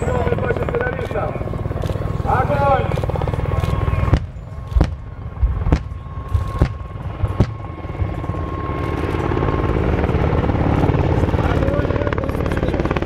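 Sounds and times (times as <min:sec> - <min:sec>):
helicopter rotor rumble: 0:00.0 - 0:13.0
thin steady whine: 0:00.0 - 0:13.0.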